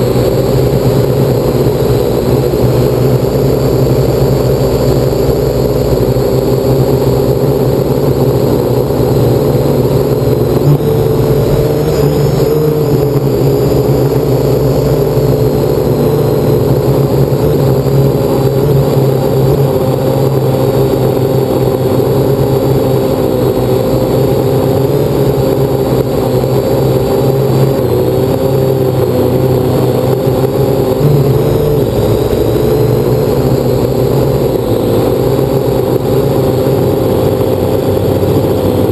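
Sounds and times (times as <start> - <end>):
quadcopter propellers humming: 0.0 - 38.9.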